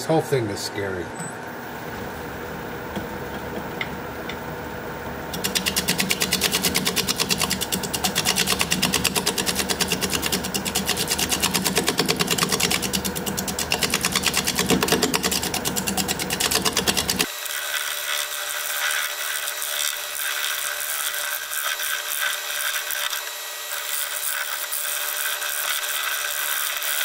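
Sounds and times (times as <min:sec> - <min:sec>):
wood lathe running: 0:05.3 - 0:27.0
gouge chattering on spinning wood: 0:05.4 - 0:27.0.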